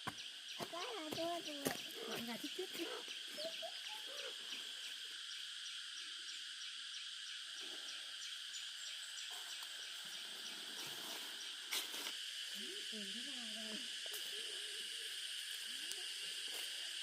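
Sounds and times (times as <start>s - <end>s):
steady high hiss: 3.1s - 17.0s.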